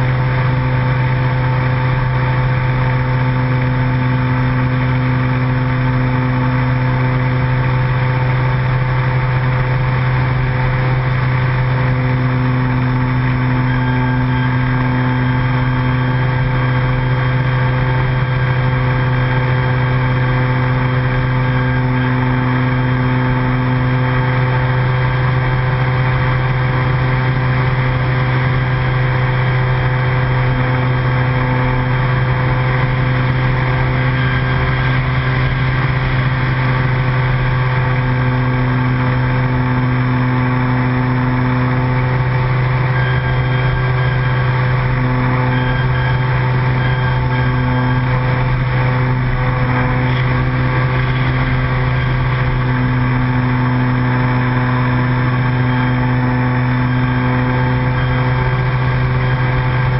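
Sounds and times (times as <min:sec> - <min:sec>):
model airplane propeller droning: 0:00.0 - 0:59.9.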